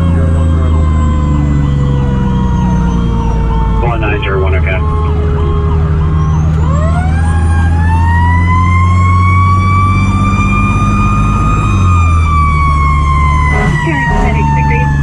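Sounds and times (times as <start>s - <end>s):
electronic siren tone: 0.0s - 15.0s
fire truck siren wail: 0.0s - 15.0s
truck engine droning: 0.0s - 15.0s.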